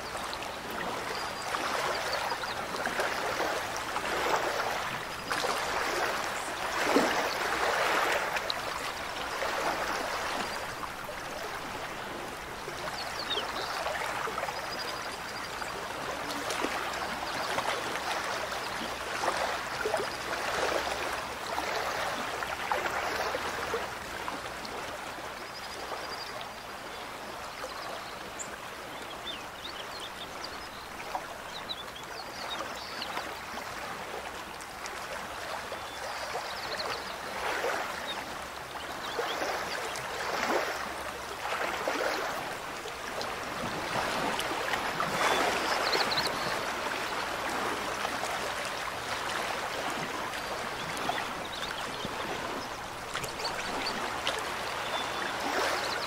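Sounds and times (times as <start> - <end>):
mountain stream rushing: 0.0 - 25.3, 33.6 - 56.0.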